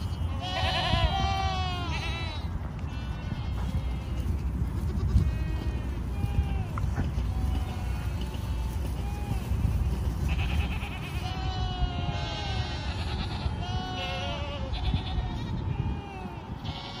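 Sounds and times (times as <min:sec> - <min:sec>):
low steady rumble: 0:00.0 - 0:16.9
goats bleating: 0:00.0 - 0:17.0.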